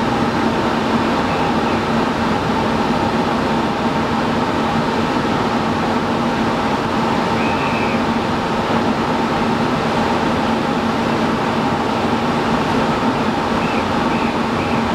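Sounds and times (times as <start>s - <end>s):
ship machinery drone: 0.0s - 14.9s
water rushing along hull: 0.0s - 14.9s.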